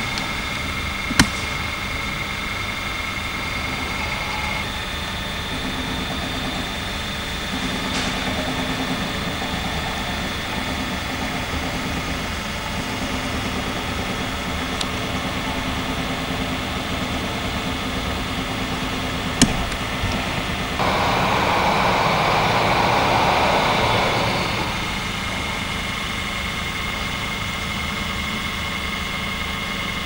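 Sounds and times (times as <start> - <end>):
diesel engine running: 0.0 - 29.4.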